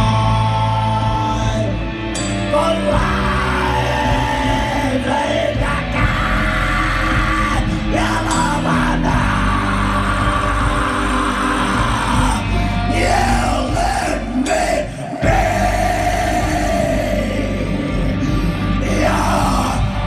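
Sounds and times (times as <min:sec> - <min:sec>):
electric guitar: 0:00.0 - 0:20.0
live rock band playing: 0:00.0 - 0:20.0
person singing and shouting: 0:02.5 - 0:20.0.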